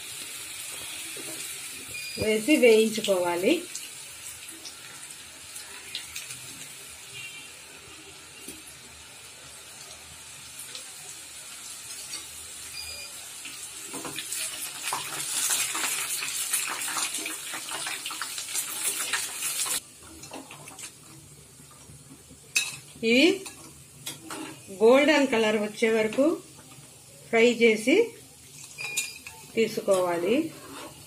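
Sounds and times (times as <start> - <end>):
dough sizzling in hot oil: 0.0 - 31.0.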